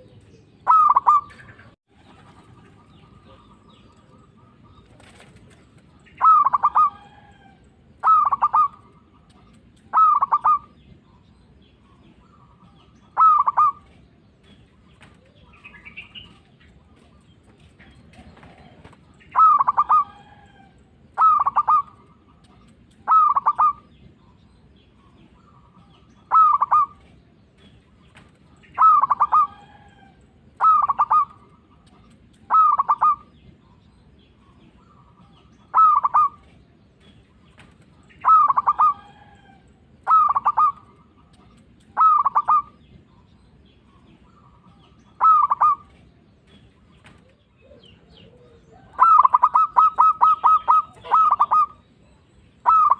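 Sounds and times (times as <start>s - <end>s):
dove staccato cooing: 0.0s - 11.0s, 12.4s - 14.1s, 14.9s - 24.2s, 25.4s - 33.5s, 34.8s - 36.8s, 37.5s - 43.0s, 44.0s - 52.0s, 52.6s - 52.9s.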